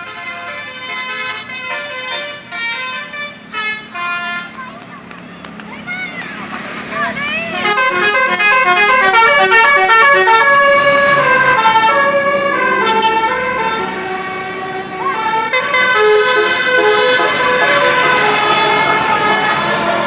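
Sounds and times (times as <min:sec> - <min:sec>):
bus musical air horn melody: 0:00.0 - 0:05.4, 0:07.2 - 0:20.0.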